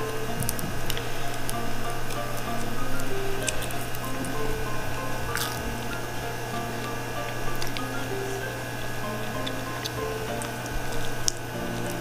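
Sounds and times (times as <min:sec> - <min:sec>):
background music of held notes: 0:00.0 - 0:12.0
steady low hum: 0:00.0 - 0:12.0.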